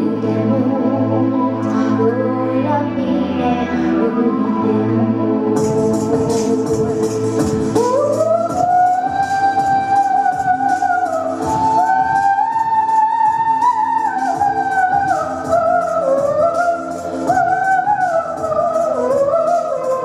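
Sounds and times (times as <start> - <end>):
girl singing into a microphone: 0.0 - 20.0
instrumental music with steady beat: 0.0 - 20.0.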